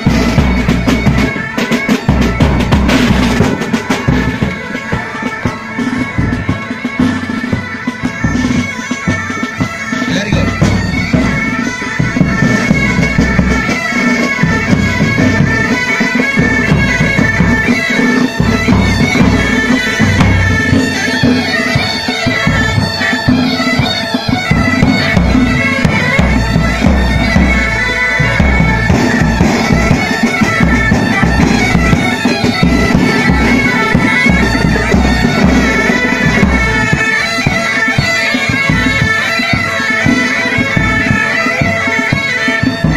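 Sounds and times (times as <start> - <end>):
bagpipes playing melody: 0.0 - 42.9
snare and bass drums beating: 0.0 - 42.9.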